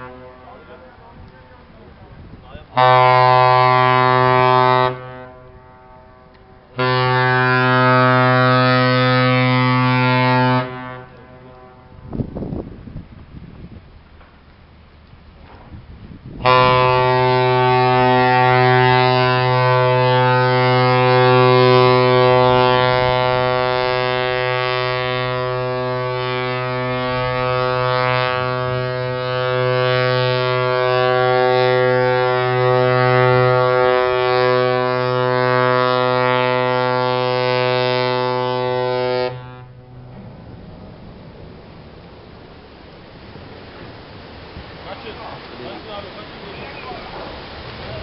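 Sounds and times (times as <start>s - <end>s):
ship horn long low blast: 0.0s - 1.7s, 2.6s - 12.4s, 16.3s - 46.4s.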